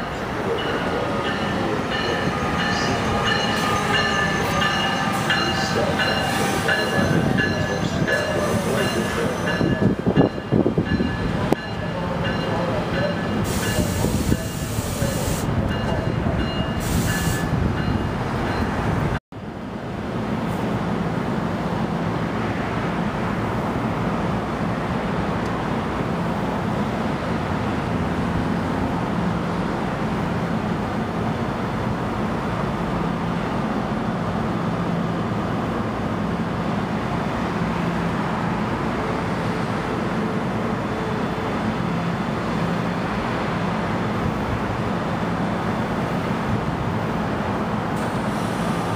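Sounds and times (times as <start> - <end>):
train rumble with low hum: 0.0 - 48.9.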